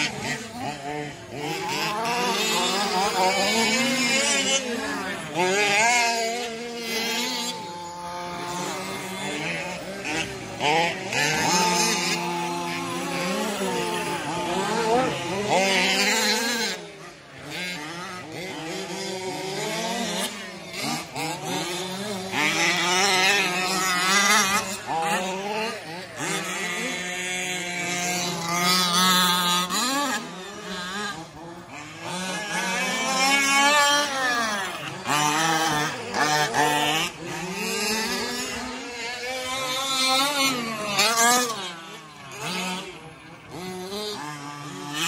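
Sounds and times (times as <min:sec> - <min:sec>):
radio-controlled trucks motors revving: 0:00.0 - 0:45.0.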